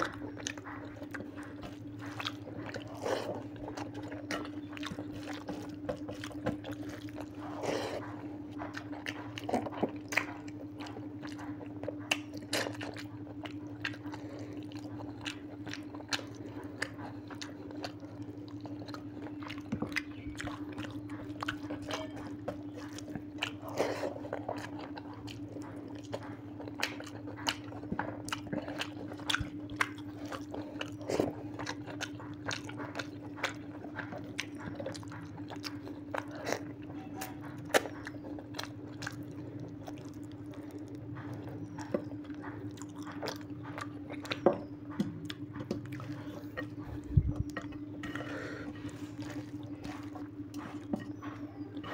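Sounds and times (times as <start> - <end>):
crunches of biting meat: 0.0 - 51.9
steady low hum: 0.0 - 51.9
wet chewing and lip-smacking: 0.0 - 51.9.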